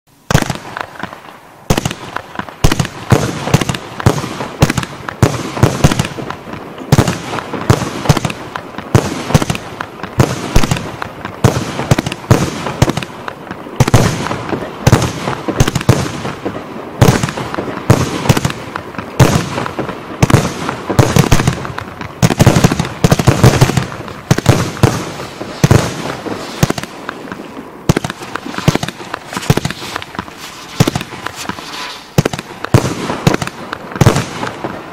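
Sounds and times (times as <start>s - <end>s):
firework launch thumps and bursts: 0.3s - 34.8s.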